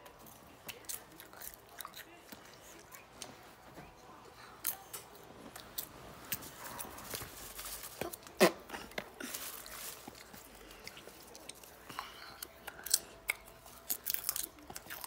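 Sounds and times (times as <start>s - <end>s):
child crunching popcorn: 0.0s - 3.3s, 4.4s - 15.0s.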